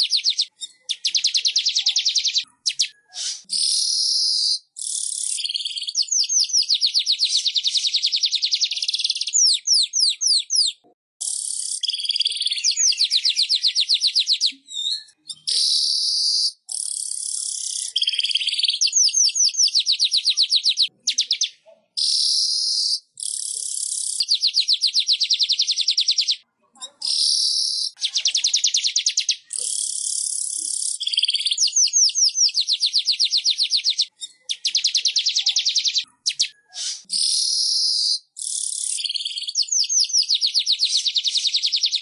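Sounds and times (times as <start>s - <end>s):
bird chattering trills: 0.0s - 14.6s, 15.2s - 42.0s.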